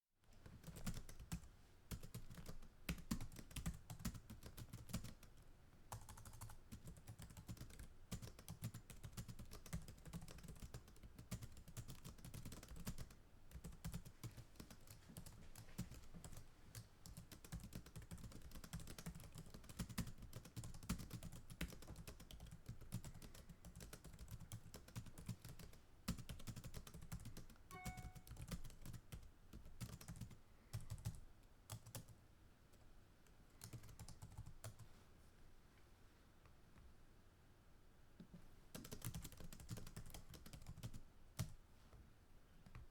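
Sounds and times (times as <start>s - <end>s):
computer keyboard typing: 0.5s - 32.2s, 33.6s - 34.8s, 38.7s - 41.6s.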